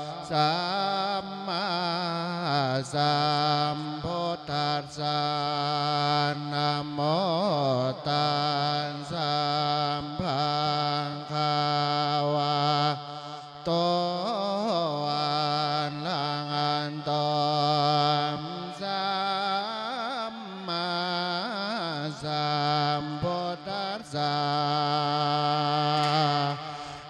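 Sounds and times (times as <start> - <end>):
man singing into microphone: 0.0 - 27.0.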